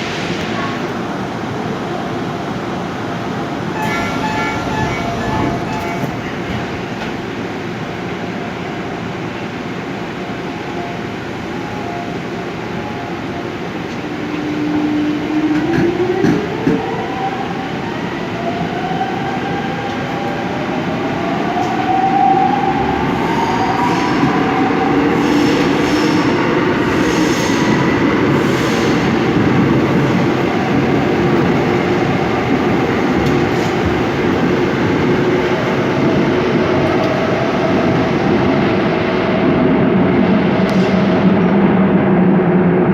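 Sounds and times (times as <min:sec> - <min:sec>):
train wheels on rails: 0:02.6 - 0:09.8, 0:12.1 - 0:42.1.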